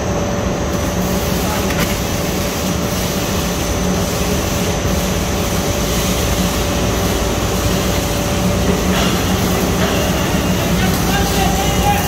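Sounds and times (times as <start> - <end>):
machine hum with steady tones: 0.0 - 12.0.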